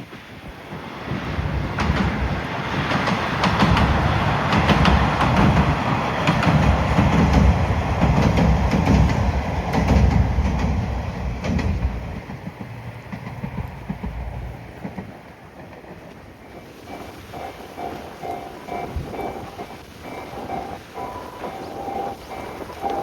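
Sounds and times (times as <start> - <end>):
diesel railcar running past: 0.0 - 23.0
wheels clacking over rail joints: 0.0 - 23.0.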